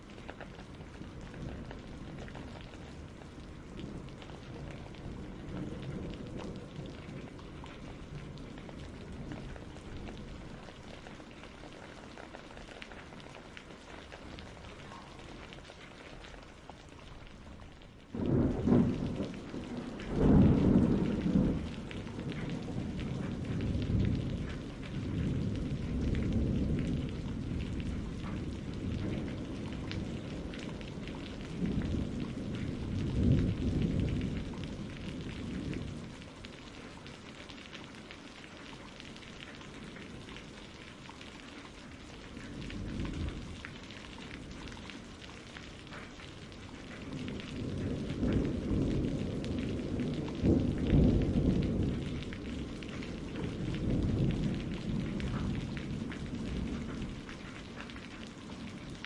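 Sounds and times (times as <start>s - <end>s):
thunder rumbling: 0.0s - 37.8s, 42.0s - 59.0s
steady rain falling: 0.0s - 59.0s.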